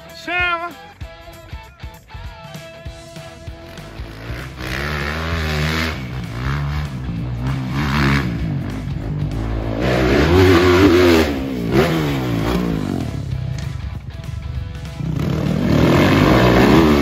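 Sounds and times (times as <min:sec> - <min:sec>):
motocross bike engine revving: 0:03.2 - 0:17.0.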